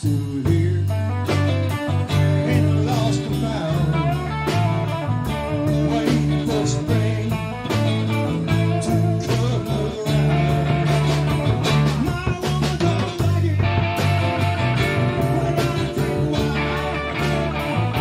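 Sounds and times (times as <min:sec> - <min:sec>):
live band playing a song: 0:00.0 - 0:18.0.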